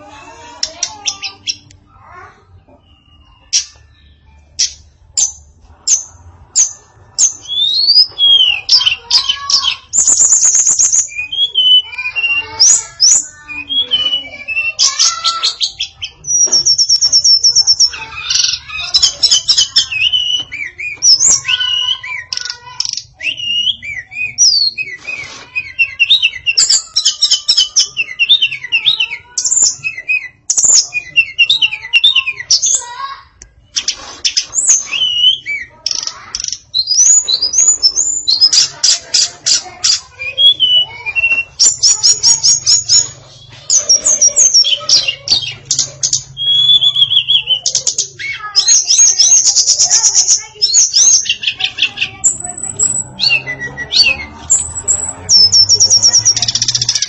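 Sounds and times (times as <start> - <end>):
songbird singing: 0.2 - 57.0.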